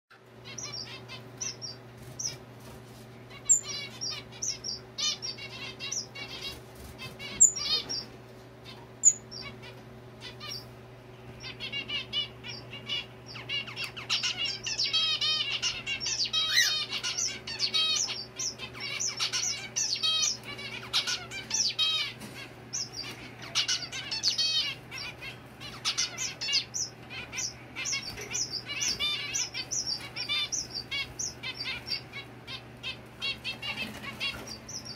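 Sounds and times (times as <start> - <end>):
faint low hum: 0.2 - 34.9
finches chirping: 0.4 - 2.4, 3.3 - 34.9.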